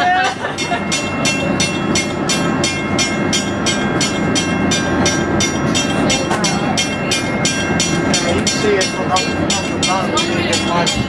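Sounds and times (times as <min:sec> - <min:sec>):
bridge machinery low rumble: 0:00.0 - 0:11.0.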